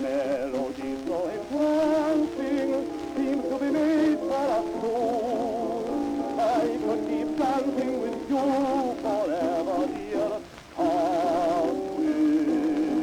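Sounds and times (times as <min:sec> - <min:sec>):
waltz music from gramophone record: 0:00.0 - 0:13.0.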